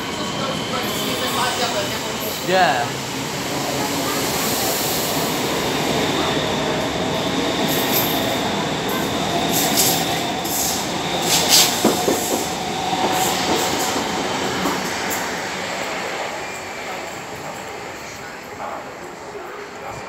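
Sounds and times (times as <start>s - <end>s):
train wheels rushing on rail: 3.0s - 19.9s.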